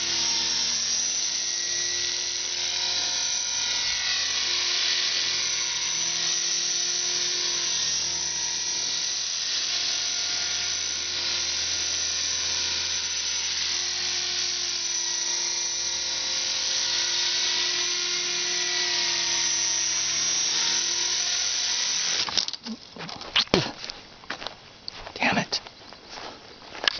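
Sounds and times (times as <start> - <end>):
model helicopter rotor whining: 0.0 - 22.6.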